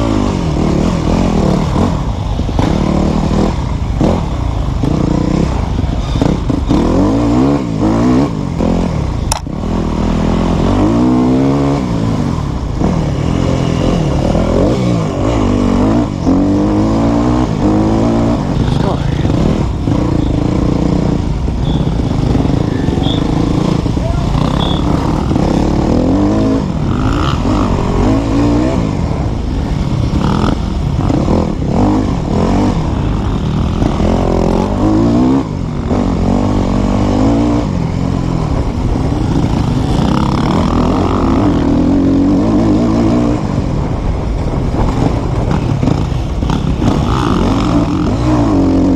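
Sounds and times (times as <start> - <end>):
dirt bike engine revving: 0.0 - 43.9, 44.8 - 48.9.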